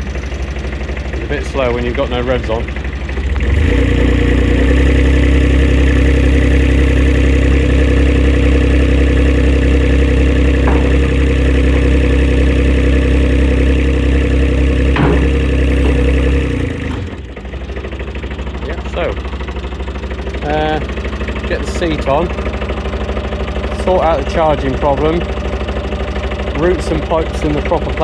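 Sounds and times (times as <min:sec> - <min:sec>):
dumper engine running: 0:00.0 - 0:28.0.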